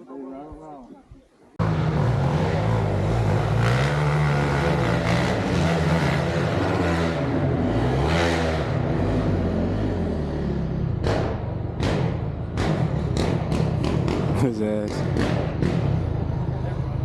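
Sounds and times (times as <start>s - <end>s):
dirt bike engine revving: 1.6s - 16.6s.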